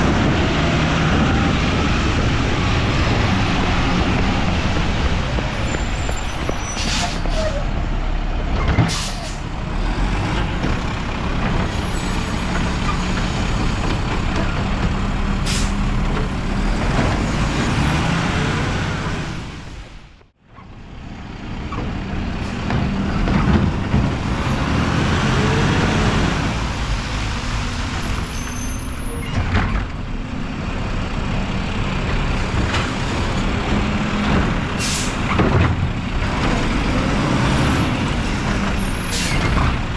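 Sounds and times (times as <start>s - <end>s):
garbage truck engine revving: 0.0s - 19.7s, 21.4s - 28.3s, 30.5s - 39.9s.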